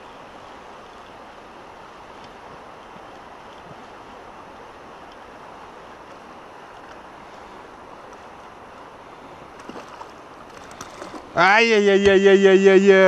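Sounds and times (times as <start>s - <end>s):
stony river flowing: 0.0s - 13.0s.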